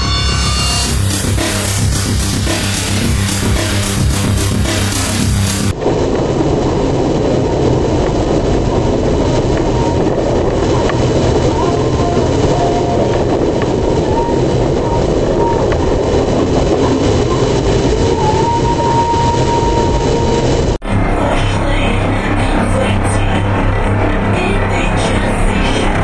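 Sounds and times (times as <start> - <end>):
road and engine rumble in car: 0.8 - 26.0.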